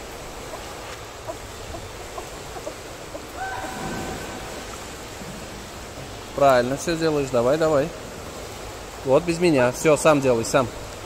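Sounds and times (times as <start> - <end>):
water splashing and lapping: 0.0 - 9.4.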